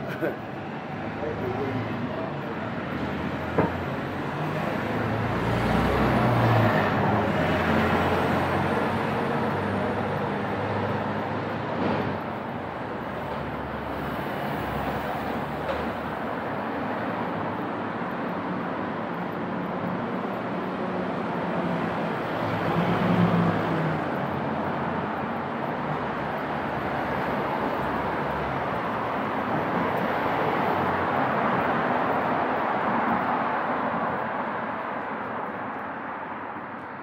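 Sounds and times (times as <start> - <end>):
road noise hum: 0.0 - 37.0.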